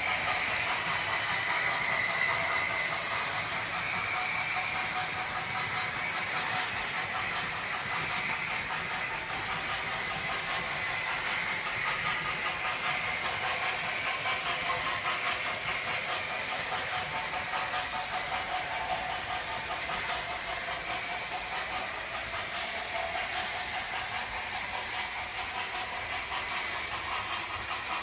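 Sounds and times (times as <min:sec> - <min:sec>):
wheels rolling on track: 0:00.0 - 0:28.0.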